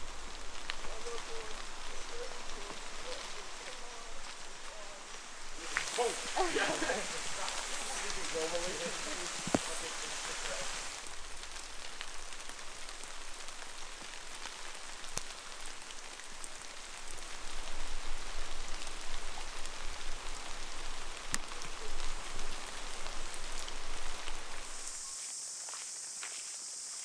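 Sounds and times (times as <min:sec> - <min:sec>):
rain pattering: 0:00.0 - 0:25.0
single raindrops: 0:00.0 - 0:25.1
high-pitched hiss: 0:00.0 - 0:27.0.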